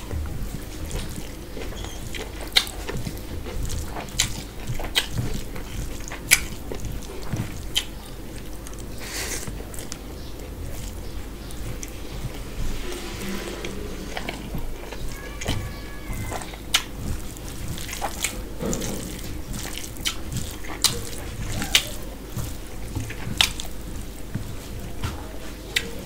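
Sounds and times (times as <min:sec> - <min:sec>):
fingers squishing rice and gravy: 0:00.0 - 0:26.0.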